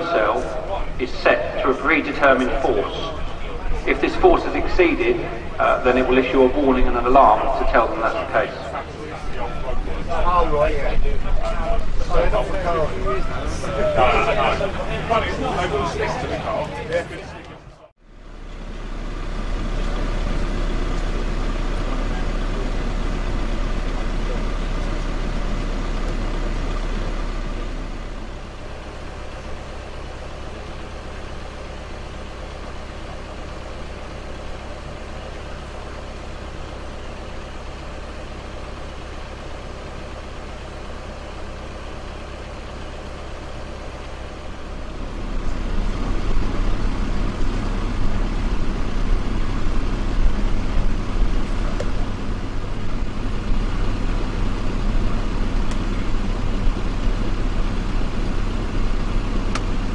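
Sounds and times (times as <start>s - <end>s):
road traffic engines: 0.0s - 59.9s.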